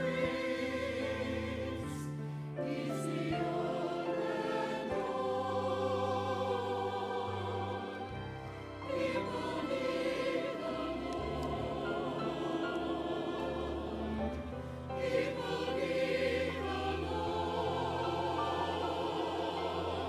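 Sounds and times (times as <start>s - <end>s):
choir singing: 0.0s - 20.0s
low instrumental accompaniment: 0.0s - 20.0s.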